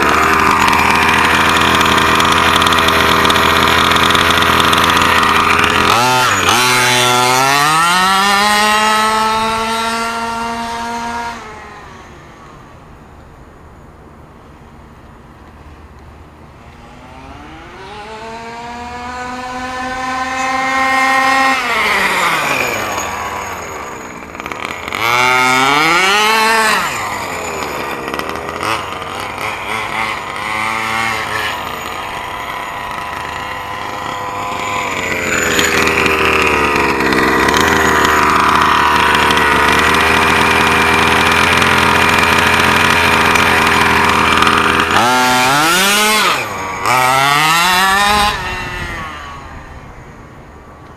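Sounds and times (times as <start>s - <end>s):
small two-stroke engine revving: 0.0s - 13.9s, 15.5s - 50.9s.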